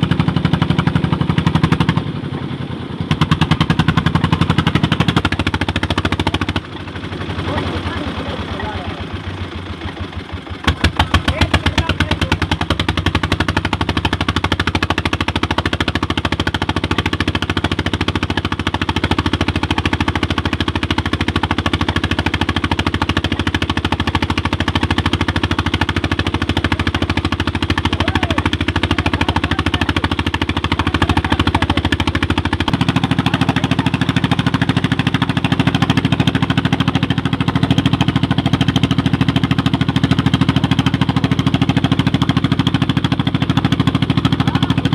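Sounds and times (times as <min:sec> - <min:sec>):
diesel engine knocking: 0:00.0 - 0:44.9.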